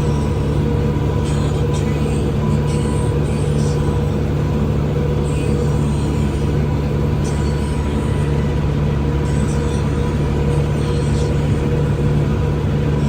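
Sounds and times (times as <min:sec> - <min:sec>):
thin steady whine: 0:00.0 - 0:13.0
tractor engine droning: 0:00.0 - 0:13.0.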